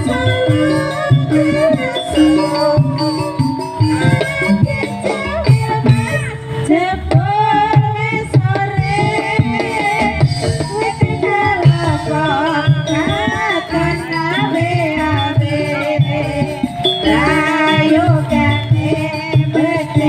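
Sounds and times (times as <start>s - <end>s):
drums keeping a steady beat: 0.0s - 20.0s
pitch-bending melody line: 0.0s - 20.0s.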